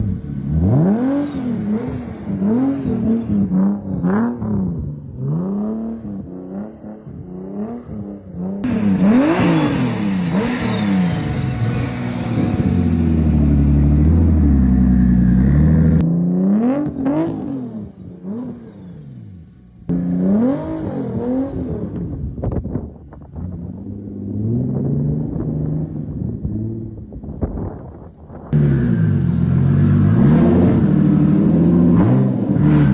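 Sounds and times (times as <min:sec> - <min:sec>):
car engine revving: 0:00.0 - 0:22.6, 0:28.5 - 0:32.9.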